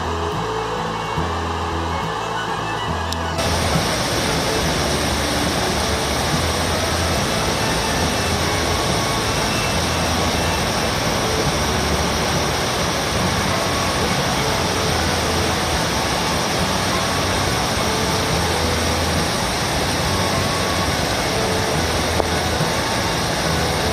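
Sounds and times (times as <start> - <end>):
river water rushing: 0.0 - 23.9.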